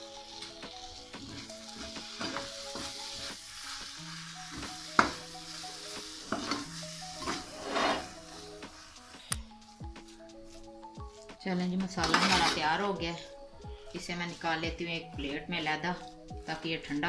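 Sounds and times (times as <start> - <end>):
light sizzle: 0.0 - 17.0
metal spoon scraping a pan: 0.2 - 14.6.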